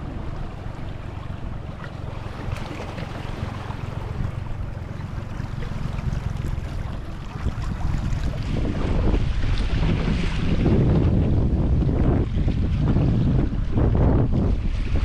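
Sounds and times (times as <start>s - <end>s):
water moving around a boat: 0.0s - 15.0s
wind rumble on microphone: 0.0s - 15.0s.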